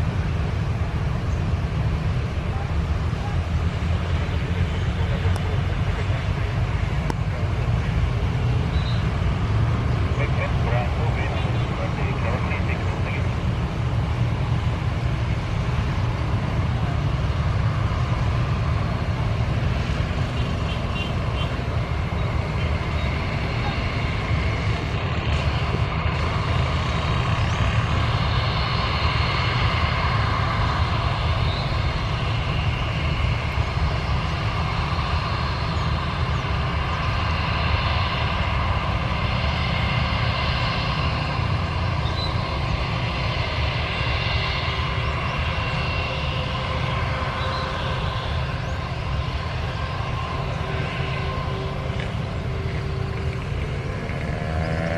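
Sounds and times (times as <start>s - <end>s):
jet engines whining: 0.0s - 54.9s.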